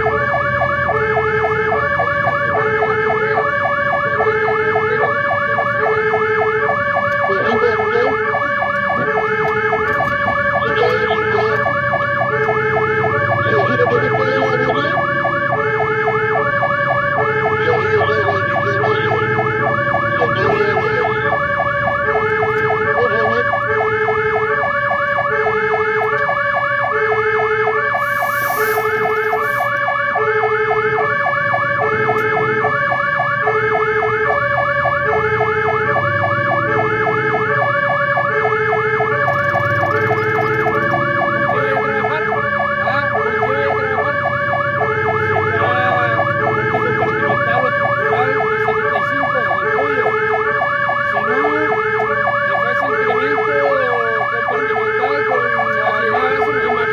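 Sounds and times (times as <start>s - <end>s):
fast warbling siren: 0.0s - 56.9s
truck engine running: 0.0s - 56.9s
two-tone hi-lo siren: 0.0s - 56.9s.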